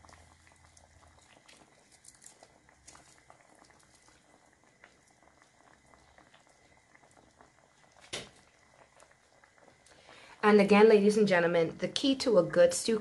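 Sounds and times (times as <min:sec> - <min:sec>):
gravy bubbling in a pot: 0:00.0 - 0:13.0.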